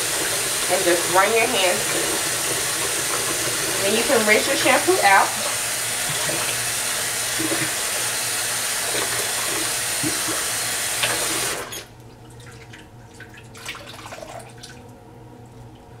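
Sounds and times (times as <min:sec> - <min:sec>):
tap water running: 0:00.0 - 0:16.0.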